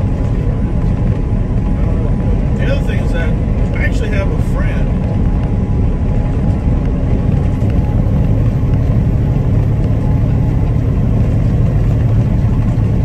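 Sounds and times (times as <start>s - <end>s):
truck engine drone: 0.0s - 13.0s
tyre and road rumble: 0.0s - 13.0s.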